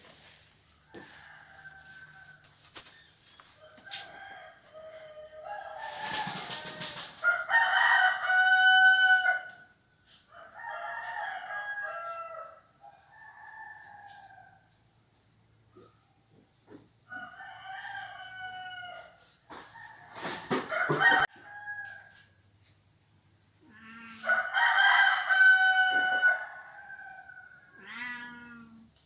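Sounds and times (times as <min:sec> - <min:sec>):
rooster crowing: 0:00.8 - 0:09.6, 0:10.4 - 0:14.6, 0:17.1 - 0:22.3, 0:23.8 - 0:29.0.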